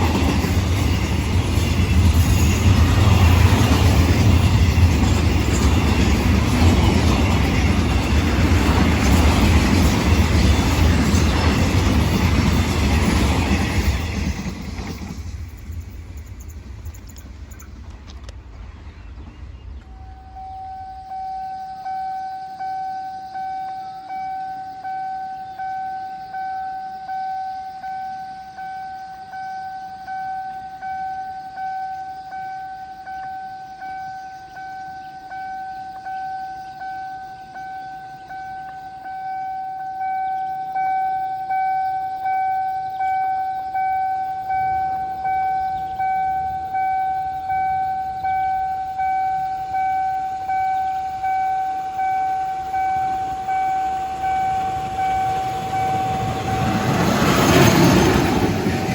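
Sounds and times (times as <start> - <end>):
pulsing railway warning alarm: 0.0 - 18.2, 19.7 - 58.9.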